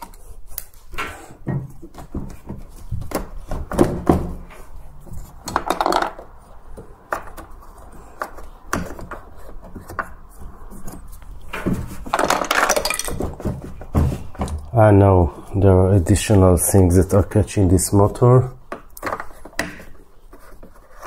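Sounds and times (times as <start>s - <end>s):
rustling handling: 1.6s - 21.0s.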